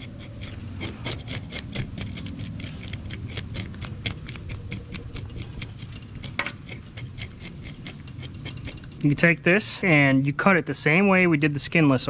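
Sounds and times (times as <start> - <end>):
fish scaler scraping scales: 0.0 - 9.8.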